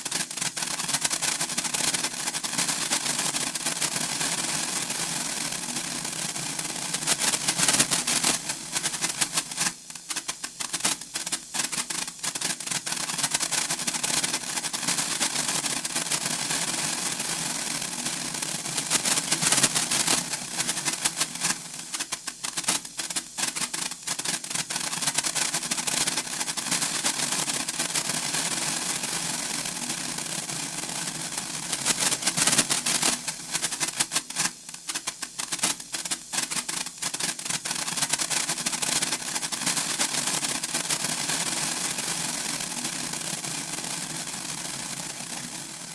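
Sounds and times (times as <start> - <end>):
sparkler crackling: 0.0 - 45.9.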